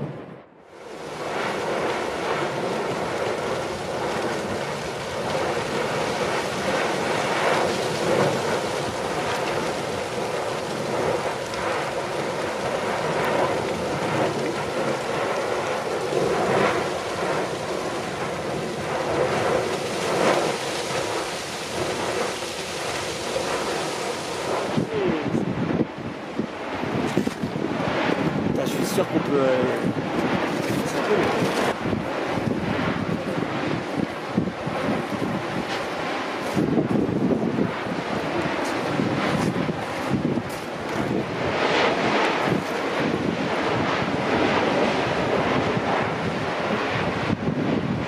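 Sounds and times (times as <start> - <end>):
lava fountain rushing and crackling: 0.0 - 48.0.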